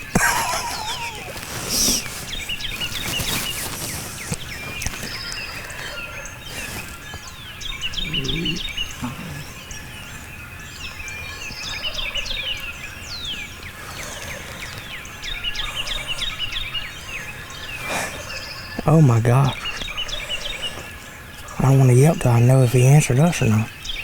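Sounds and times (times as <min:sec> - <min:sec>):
songbirds chirping and singing: 0:00.0 - 0:24.0.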